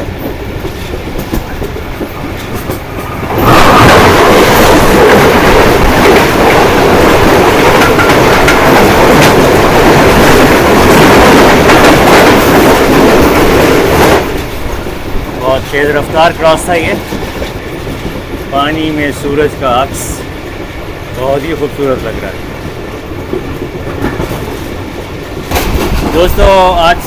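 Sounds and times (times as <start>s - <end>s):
express train rushing past: 0.0s - 27.0s
train running on rails: 0.0s - 27.0s.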